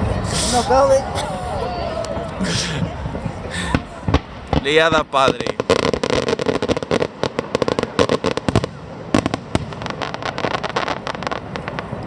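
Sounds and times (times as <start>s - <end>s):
fireworks crackling bangs: 0.0s - 12.0s
loud firework bangs: 0.0s - 12.0s.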